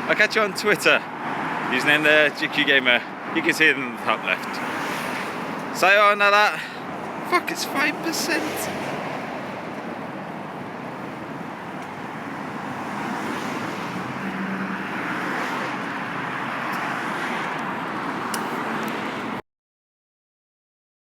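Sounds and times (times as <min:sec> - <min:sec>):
passing cars: 0:00.0 - 0:19.4.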